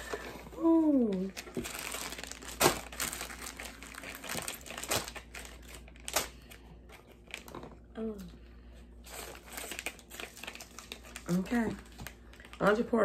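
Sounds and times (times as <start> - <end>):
plastic wrappers crinkling: 0.0 - 8.3, 9.0 - 13.0.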